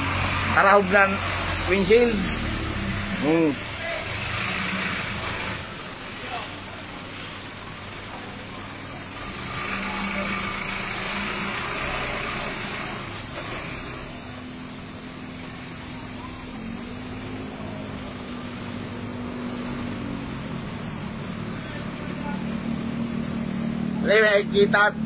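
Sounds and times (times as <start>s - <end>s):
truck driving past: 0.0s - 25.0s
vehicle engine hum: 0.0s - 25.0s.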